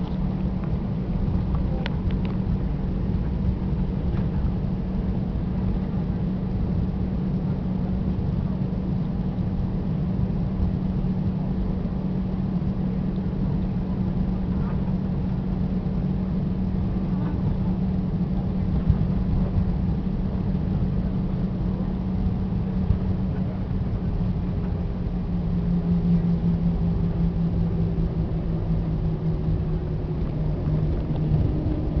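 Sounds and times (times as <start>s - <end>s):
airliner engines droning: 0.0s - 32.0s.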